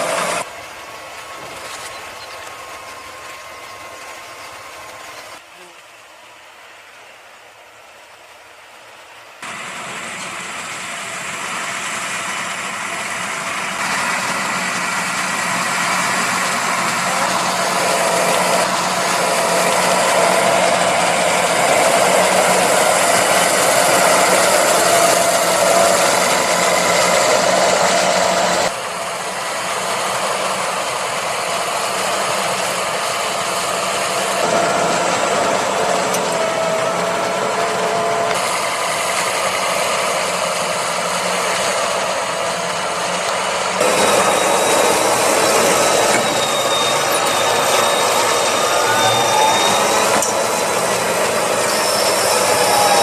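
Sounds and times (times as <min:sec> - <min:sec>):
tractor diesel engine under load: 0:00.0 - 0:05.5, 0:09.4 - 0:53.0.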